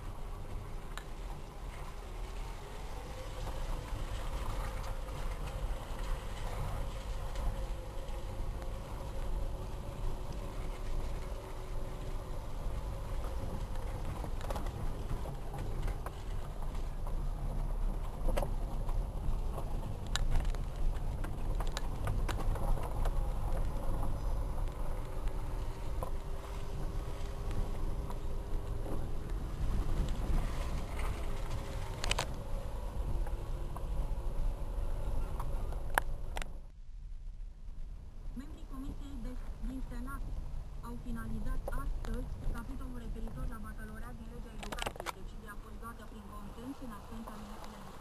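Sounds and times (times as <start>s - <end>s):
car rumbling on rough road: 0.0s - 48.0s
faint steady whine: 0.0s - 48.0s.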